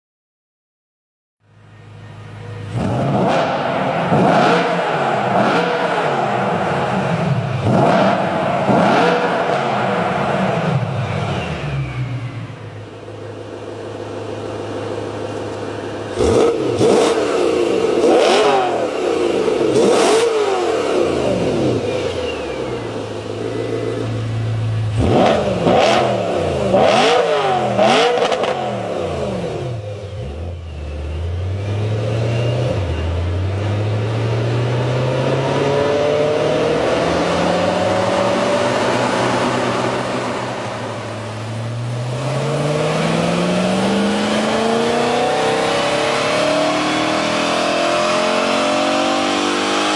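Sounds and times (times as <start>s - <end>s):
car engine idling and revving: 1.4s - 49.9s
car accelerating: 1.5s - 49.9s.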